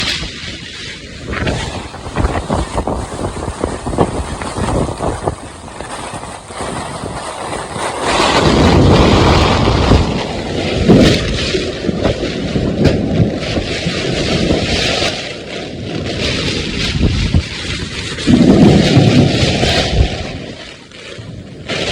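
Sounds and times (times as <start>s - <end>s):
gusting wind on microphone: 0.0s - 21.9s
heavy rain: 0.0s - 21.9s.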